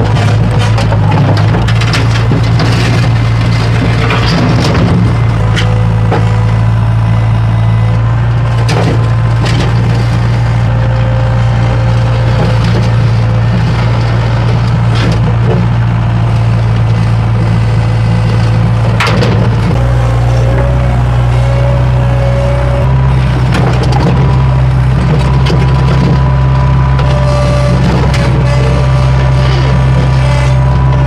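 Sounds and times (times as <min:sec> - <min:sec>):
skid steer engine running: 0:00.0 - 0:31.0.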